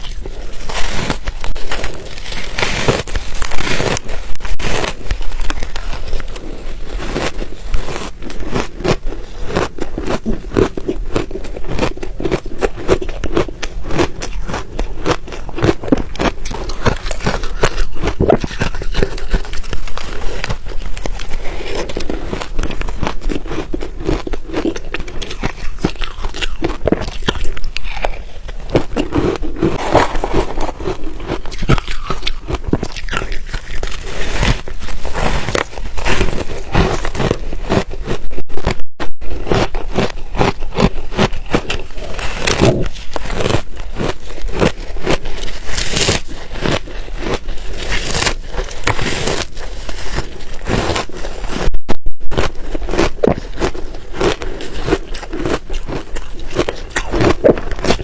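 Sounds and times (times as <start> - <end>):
ice crunching being chewed: 0.0 - 38.4, 39.3 - 58.0.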